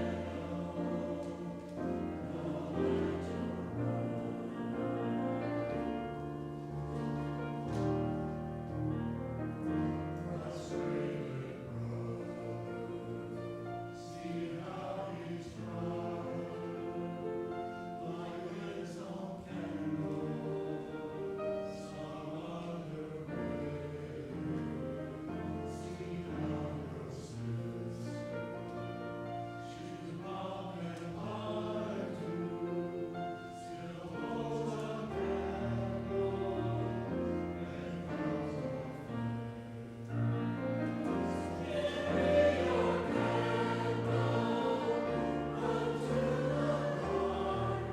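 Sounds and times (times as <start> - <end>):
choir singing: 0.0 - 47.9.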